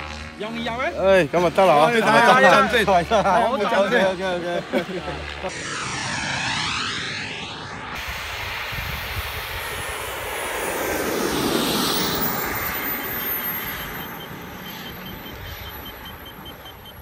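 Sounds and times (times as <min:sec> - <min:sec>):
model jet engine whine: 0:00.0 - 0:17.0.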